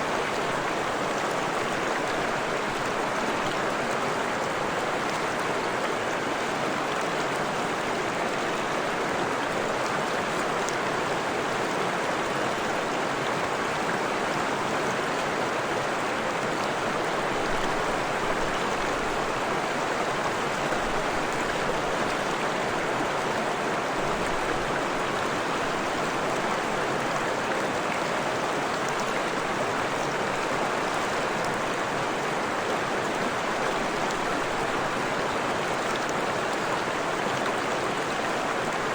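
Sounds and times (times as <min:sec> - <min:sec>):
forest stream flowing: 0:00.0 - 0:38.9.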